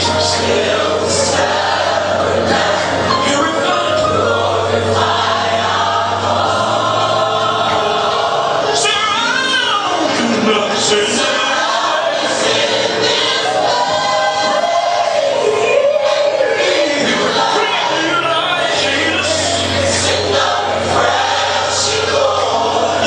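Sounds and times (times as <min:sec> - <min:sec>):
gospel choir singing: 0:00.0 - 0:23.0.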